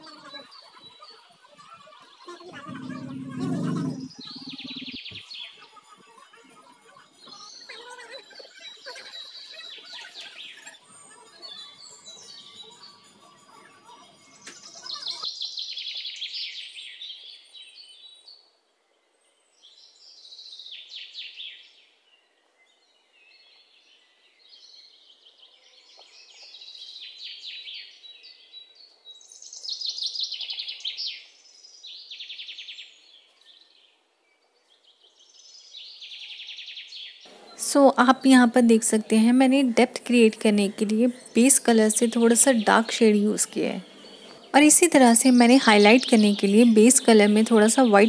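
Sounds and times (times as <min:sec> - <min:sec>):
small birds chirping and trilling: 0:00.0 - 0:48.0.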